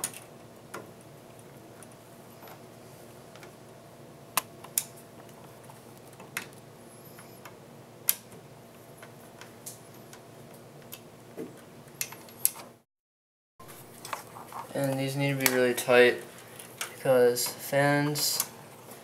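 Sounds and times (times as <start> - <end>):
faint steady hum: 0.0 - 12.8, 13.7 - 19.0.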